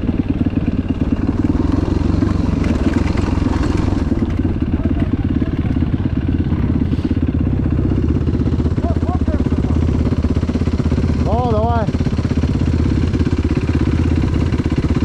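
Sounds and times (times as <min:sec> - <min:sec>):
dirt bike engine at low revs: 0:00.0 - 0:15.0.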